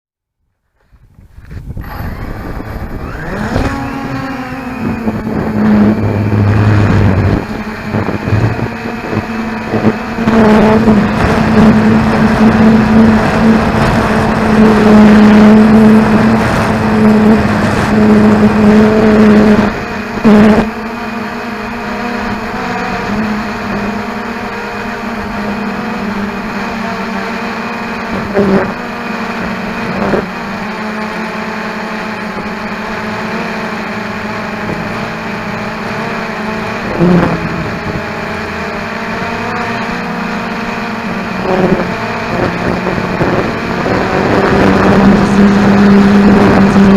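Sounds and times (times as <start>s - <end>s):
drone motors humming: 0.7s - 46.9s
wind noise: 0.8s - 30.5s, 32.3s - 46.9s.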